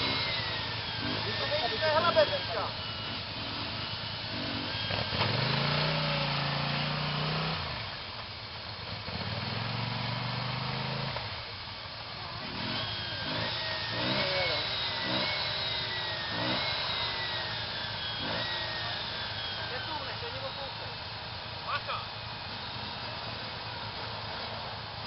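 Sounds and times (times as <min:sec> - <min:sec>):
quad bike engine revving: 0:00.0 - 0:25.0.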